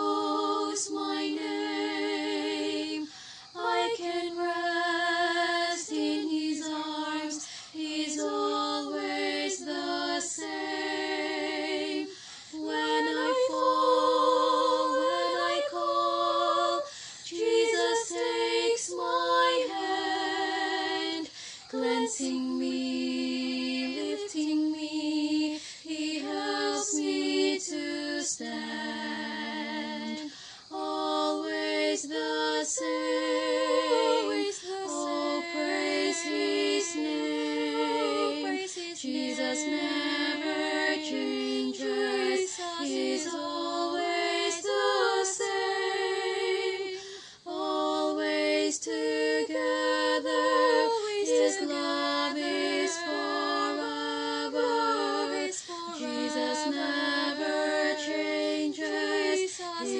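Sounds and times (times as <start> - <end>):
woman singing a cappella: 0.0 - 59.9.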